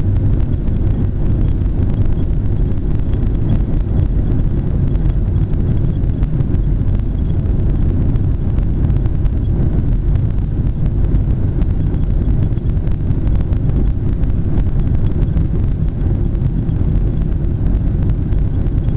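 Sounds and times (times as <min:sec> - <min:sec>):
jet engine rumble inside cabin: 0:00.0 - 0:18.9.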